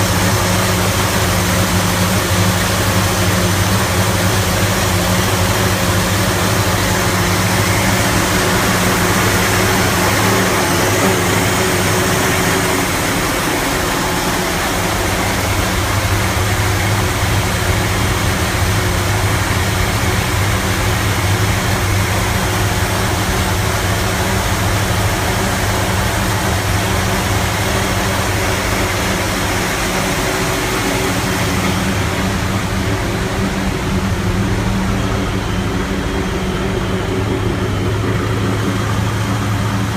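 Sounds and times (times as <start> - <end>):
engine idling roughly: 0.0 - 39.9.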